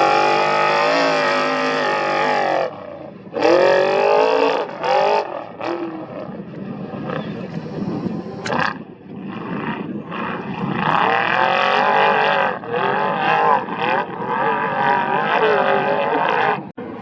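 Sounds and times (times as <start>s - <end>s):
race vehicle engine revving: 0.0s - 16.7s.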